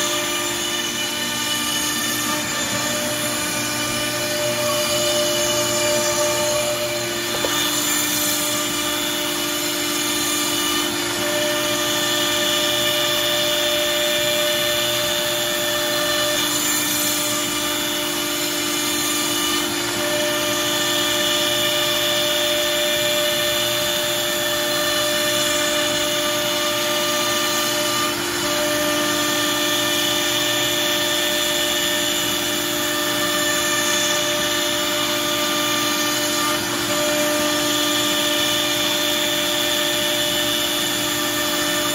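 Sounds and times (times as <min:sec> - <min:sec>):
router bit cutting wood: 0:00.0 - 0:41.9
router spindle whine: 0:00.0 - 0:41.9.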